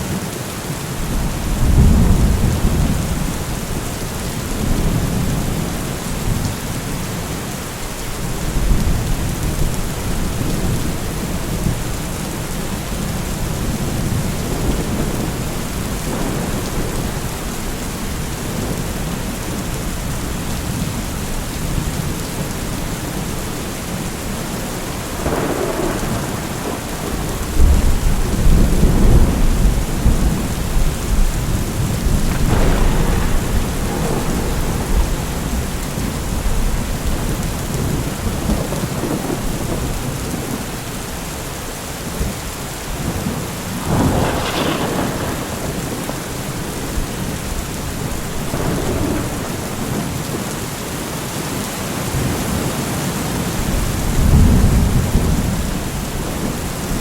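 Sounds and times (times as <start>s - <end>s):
steady rain: 0.0s - 57.0s
rolling thunder: 1.0s - 7.1s, 8.2s - 40.9s, 42.1s - 50.7s, 53.5s - 57.0s.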